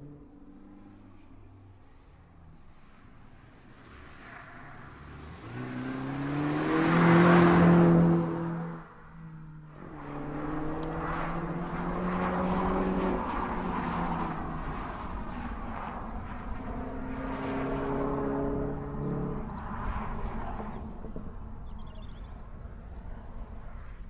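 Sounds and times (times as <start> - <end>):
car driving by: 3.8 - 23.2.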